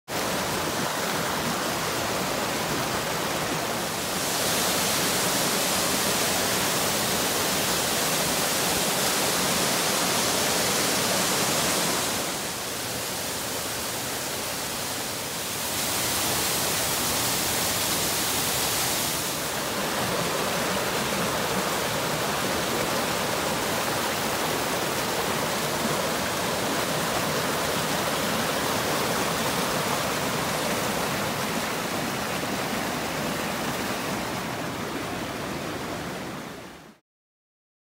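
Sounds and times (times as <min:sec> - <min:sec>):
stream rushing over boulders: 0:00.1 - 0:37.0.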